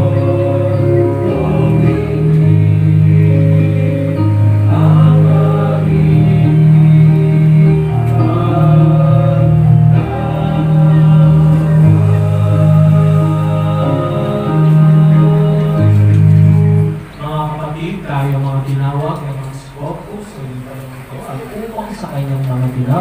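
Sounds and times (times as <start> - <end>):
held bass notes: 0.0 - 18.8
congregation singing a hymn: 0.0 - 21.1.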